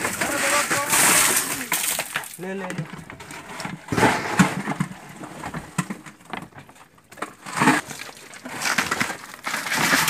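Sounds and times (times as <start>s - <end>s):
crushed ice crunching and rattling: 0.0s - 10.0s.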